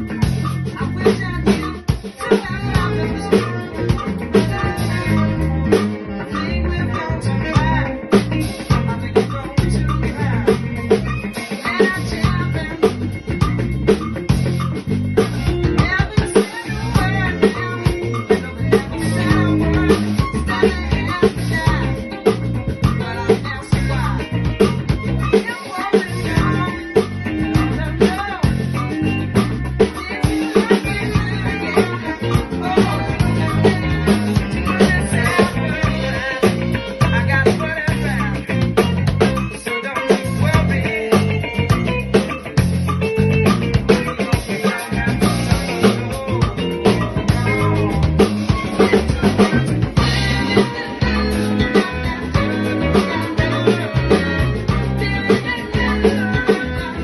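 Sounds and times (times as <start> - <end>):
drum kit: 0.0 - 57.0
funk bass line: 0.0 - 57.0
guitar: 0.0 - 57.0
person singing: 0.0 - 57.0.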